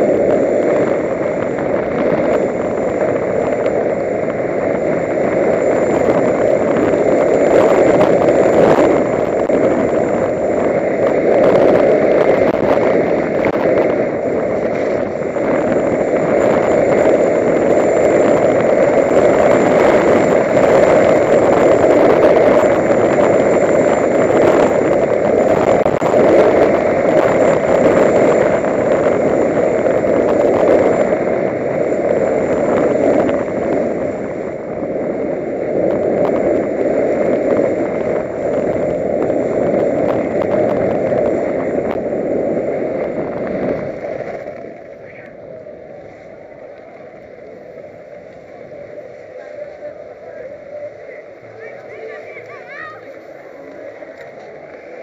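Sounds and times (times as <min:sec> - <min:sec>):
skis scraping on packed snow: 0:00.0 - 0:55.0
wind on microphone: 0:00.0 - 0:55.0.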